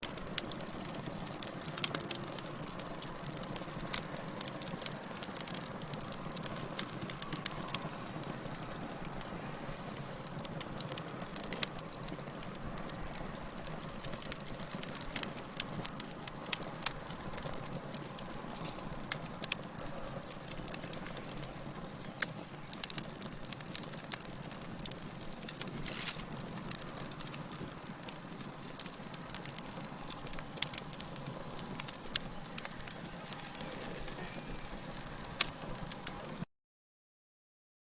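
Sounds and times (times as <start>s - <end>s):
fire crackling: 0.0s - 36.4s.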